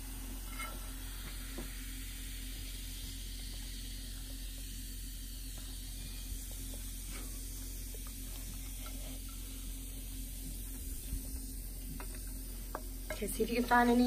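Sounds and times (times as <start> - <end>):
fizzing hiss in vinegar: 0.0 - 12.7.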